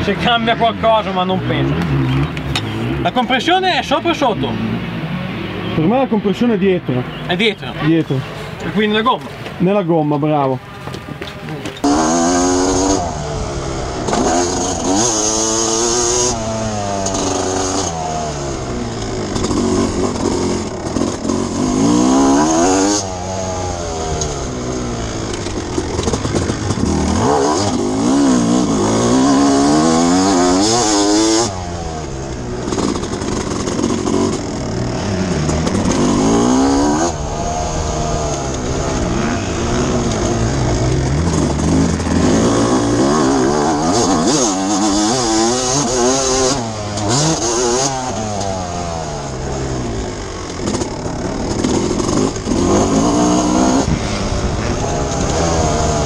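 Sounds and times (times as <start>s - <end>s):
motocross engine revving: 0.0s - 9.1s, 11.4s - 56.0s.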